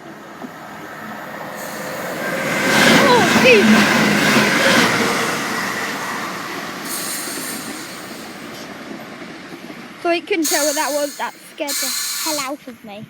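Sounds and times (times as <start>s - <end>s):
train passing: 0.0s - 13.0s.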